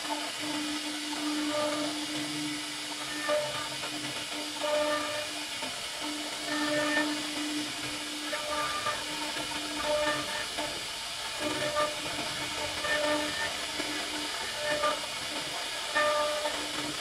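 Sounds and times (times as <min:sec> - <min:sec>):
router cutter routing wood: 0:00.0 - 0:17.0.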